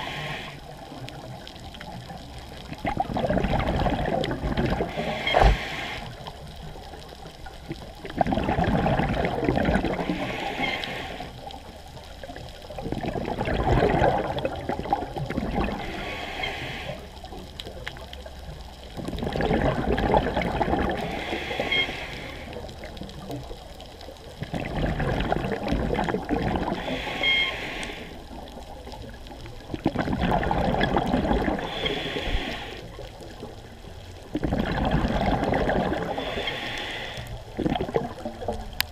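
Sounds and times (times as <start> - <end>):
exhaled bubbles gurgling: 0.0 - 38.9.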